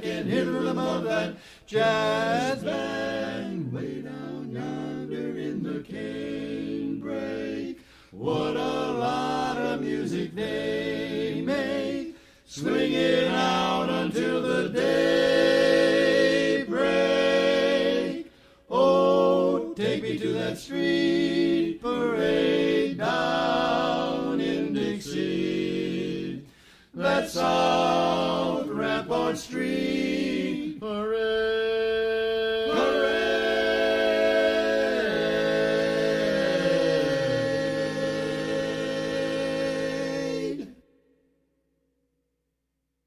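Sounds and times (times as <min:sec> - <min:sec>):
quartet singing a cappella: 0:00.0 - 0:40.8.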